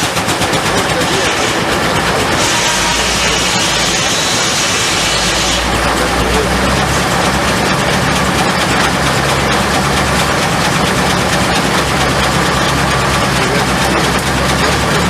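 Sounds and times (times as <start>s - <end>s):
loud rushing noise: 0.0s - 13.0s
machinery low hum: 0.1s - 15.0s.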